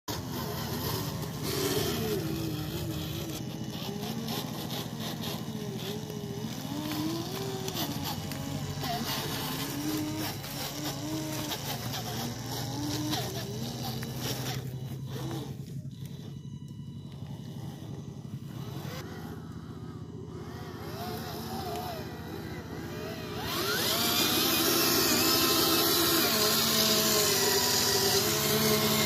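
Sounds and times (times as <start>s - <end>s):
small electric motor whining: 0.1s - 29.0s.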